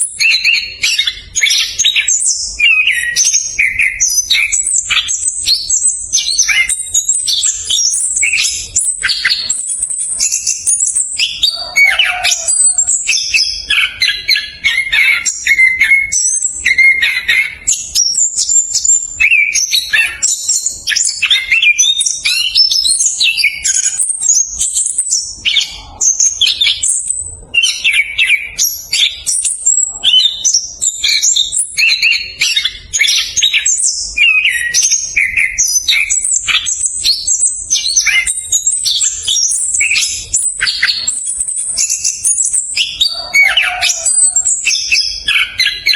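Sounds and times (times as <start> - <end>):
thrush singing rapid warbling song: 0.0 - 45.9.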